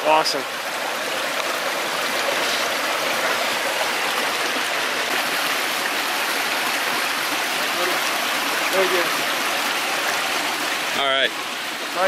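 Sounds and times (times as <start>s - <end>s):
stream splashing over stones: 0.0s - 12.0s.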